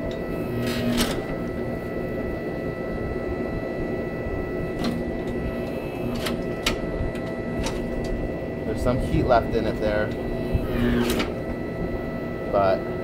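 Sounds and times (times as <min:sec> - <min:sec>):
hydraulic pump whine: 0:00.0 - 0:13.0.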